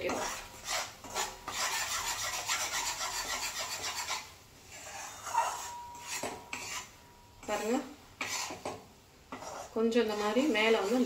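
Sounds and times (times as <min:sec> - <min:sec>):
metal spatula scraping a pan: 0:00.0 - 0:11.0.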